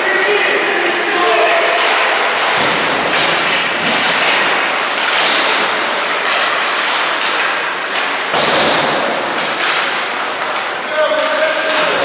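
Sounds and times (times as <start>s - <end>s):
skates scraping on ice: 1.0s - 12.0s.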